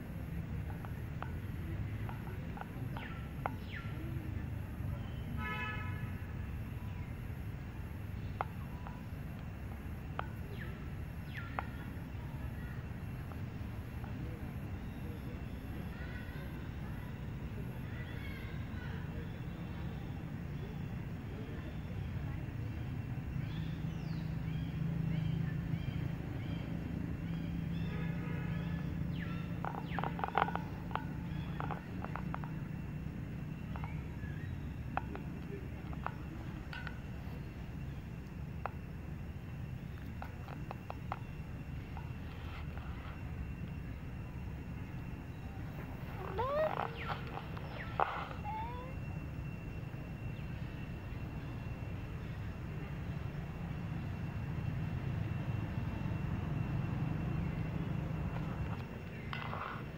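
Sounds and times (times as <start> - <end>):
faint pulsing high whine: 0.0 - 59.9
steady low hum: 0.0 - 59.9.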